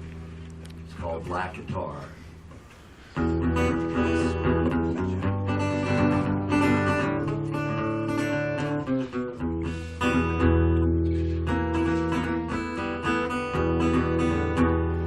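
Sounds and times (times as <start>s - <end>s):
acoustic guitar playing: 2.6s - 15.0s.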